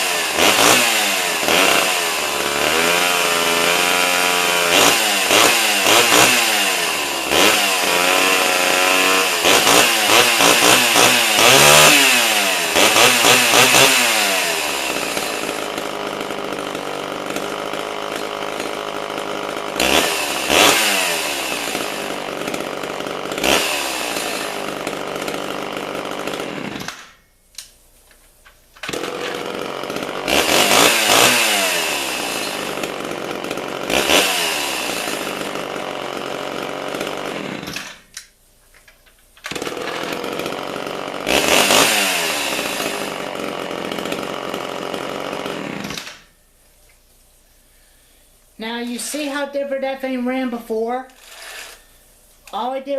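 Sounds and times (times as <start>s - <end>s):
chainsaw revving: 0.0s - 27.2s, 28.8s - 38.4s, 39.4s - 46.4s, 47.8s - 52.9s.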